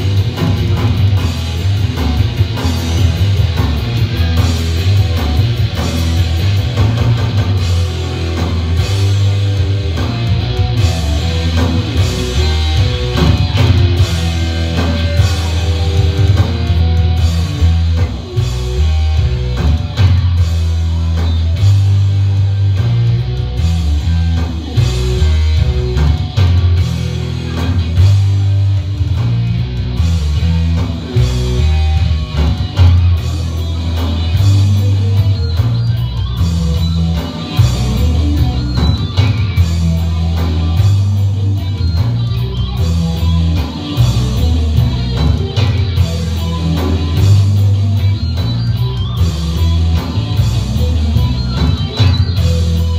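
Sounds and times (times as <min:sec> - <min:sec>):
drum kit: 0:00.0 - 0:52.9
electric bass: 0:00.0 - 0:52.9
electric guitar: 0:00.0 - 0:52.9.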